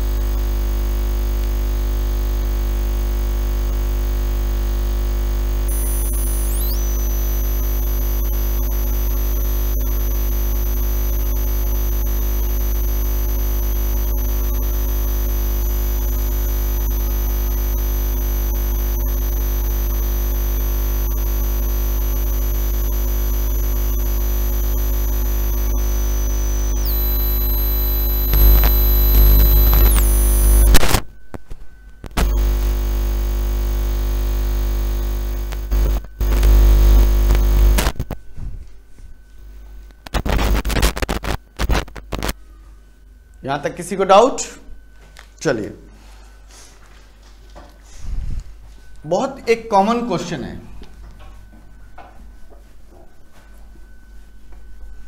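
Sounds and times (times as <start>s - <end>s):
electronic hum and hiss: 0.0s - 55.0s.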